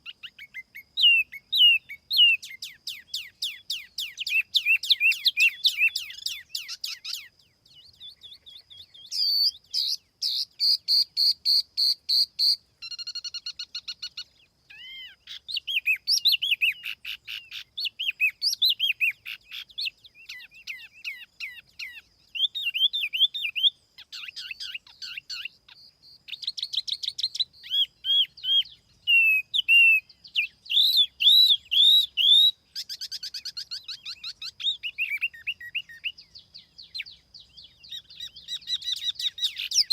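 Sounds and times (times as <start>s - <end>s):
recorded songbird chirps and trills: 0.0s - 39.9s.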